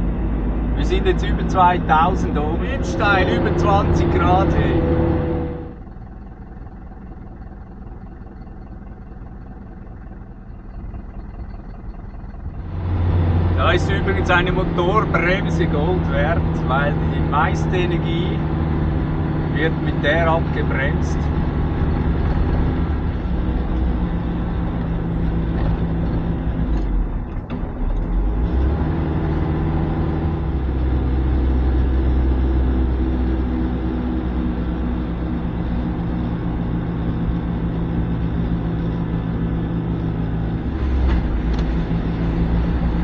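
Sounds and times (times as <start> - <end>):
truck diesel engine braking: 0.0 - 43.0.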